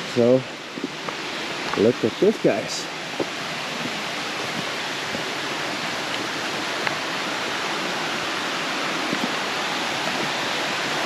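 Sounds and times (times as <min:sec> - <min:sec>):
stream water over rocks: 0:00.0 - 0:11.0.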